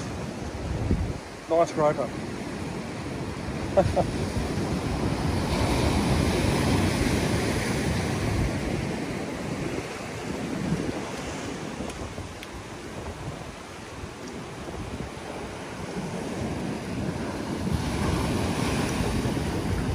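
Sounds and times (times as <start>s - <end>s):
surf breaking over rocks: 0.0s - 19.9s
wind buffeting microphone: 0.0s - 19.9s.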